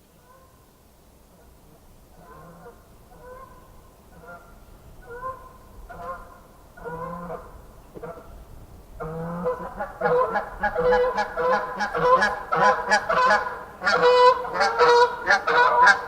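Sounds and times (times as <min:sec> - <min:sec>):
geese honking: 0:01.4 - 0:08.3, 0:09.0 - 0:16.0.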